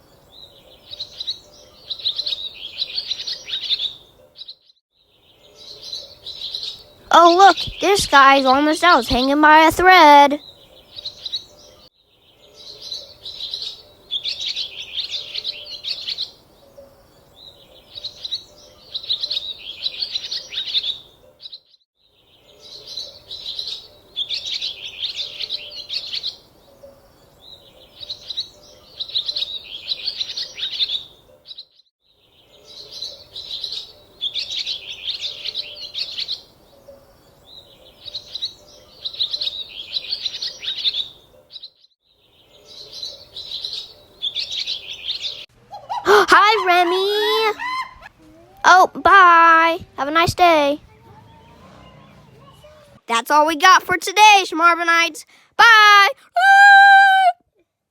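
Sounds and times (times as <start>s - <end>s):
birds chirping and singing: 0.0s - 57.3s.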